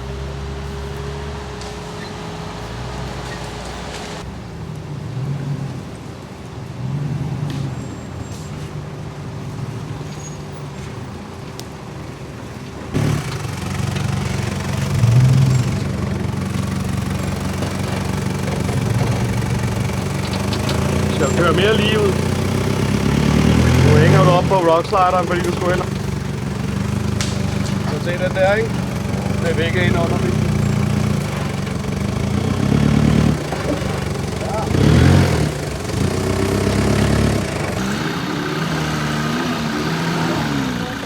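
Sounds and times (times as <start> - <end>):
vehicle engine revving: 0.0 - 10.4, 12.9 - 41.0.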